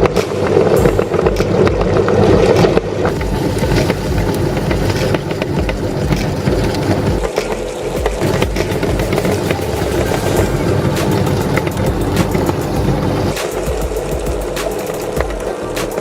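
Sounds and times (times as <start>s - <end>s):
meat grinder motor humming: 3.1s - 16.0s.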